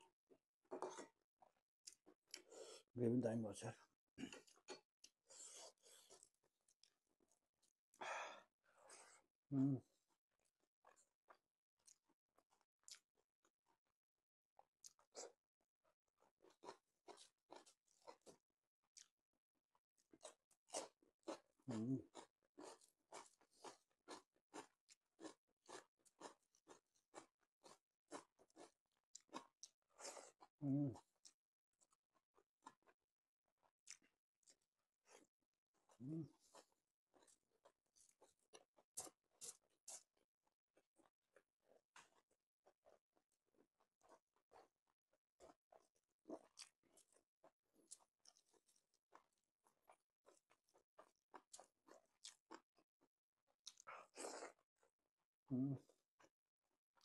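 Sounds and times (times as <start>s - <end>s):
chewing: 0.3s - 2.9s, 4.2s - 7.8s, 10.4s - 13.2s, 14.8s - 15.4s, 16.1s - 19.2s, 19.8s - 33.0s, 33.6s - 55.0s.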